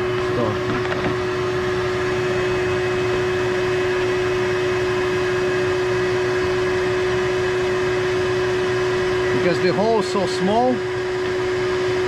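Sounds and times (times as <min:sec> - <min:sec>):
vacuum humming: 0:00.0 - 0:12.0.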